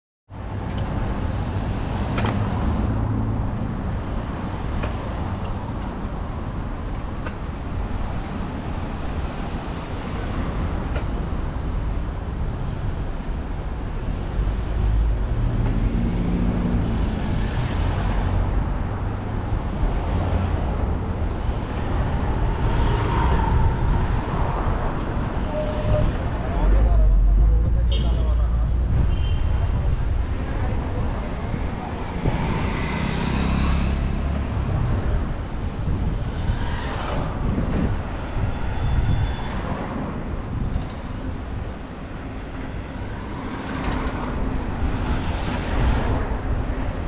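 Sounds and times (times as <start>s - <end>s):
passing cars: 0.3s - 47.0s.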